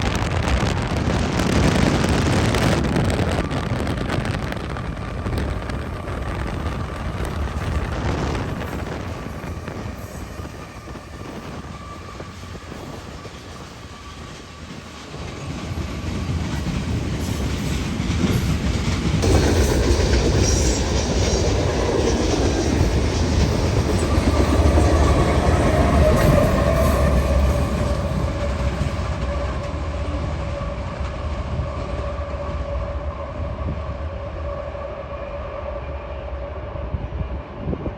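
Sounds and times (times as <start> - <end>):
train passing with low rumble: 0.0 - 37.9.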